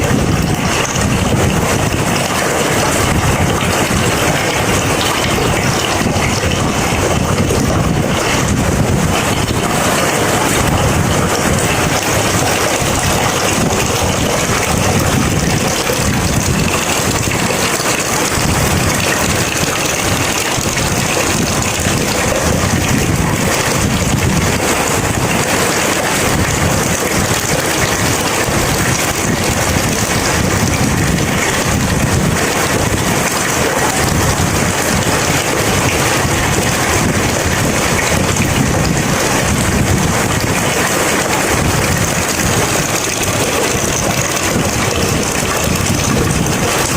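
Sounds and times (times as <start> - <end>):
low thunder rumble: 0.0 - 25.6, 26.2 - 46.9
heavy rain hissing: 0.0 - 46.9.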